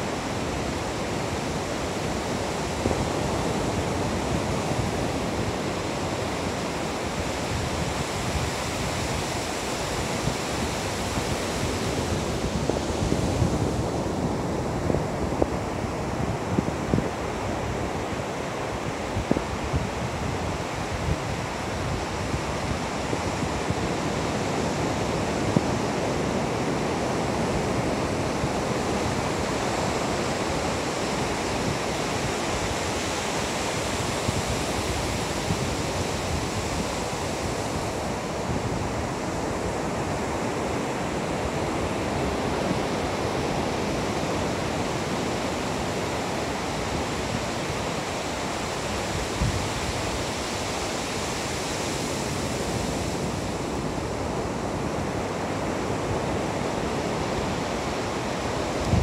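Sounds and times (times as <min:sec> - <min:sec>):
surf breaking on beach: 0:00.0 - 0:59.0.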